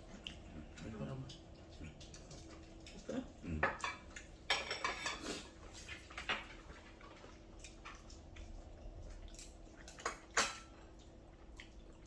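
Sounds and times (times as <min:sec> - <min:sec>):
wet chewing: 0:00.0 - 0:04.5, 0:05.3 - 0:12.0.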